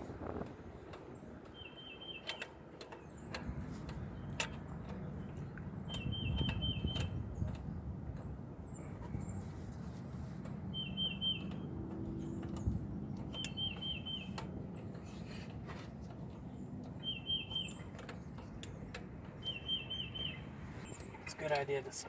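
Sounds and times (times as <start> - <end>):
songbird singing: 0.3 - 22.0.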